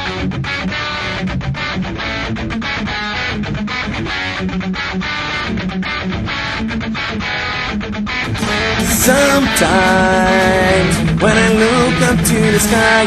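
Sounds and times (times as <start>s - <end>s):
repeating bass notes: 0.0s - 13.0s
strummed guitar chords: 0.0s - 13.0s.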